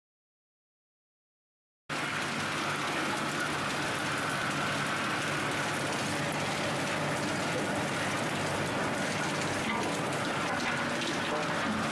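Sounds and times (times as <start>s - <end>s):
low machine hum: 1.9s - 11.9s
wood chips rattling on vibrating conveyor: 1.9s - 11.9s.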